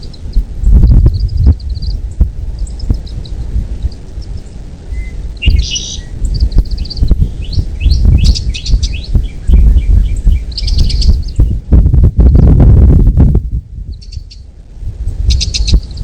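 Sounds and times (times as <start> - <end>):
bird chirping: 0.0 - 12.6, 13.9 - 14.5, 15.1 - 16.0
low uneven rumble: 0.0 - 16.0.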